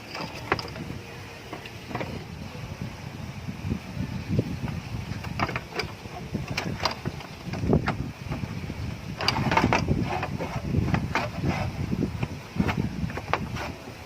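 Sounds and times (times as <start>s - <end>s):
hand tools and metal parts clattering: 0.0s - 2.4s, 4.6s - 14.0s.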